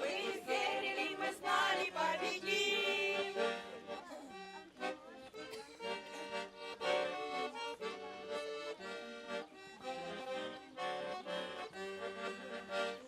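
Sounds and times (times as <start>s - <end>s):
instrumental melody with rhythm: 1.4s - 13.0s.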